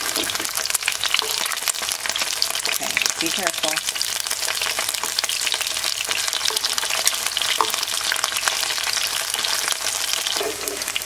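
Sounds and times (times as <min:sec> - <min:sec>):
shrimp sizzling in oil: 0:00.0 - 0:11.0.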